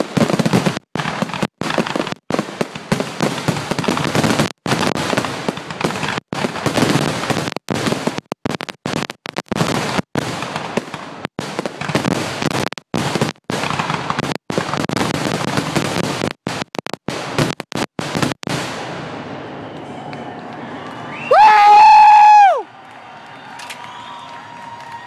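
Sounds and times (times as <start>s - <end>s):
fireworks booming and crackling: 0.0s - 22.6s.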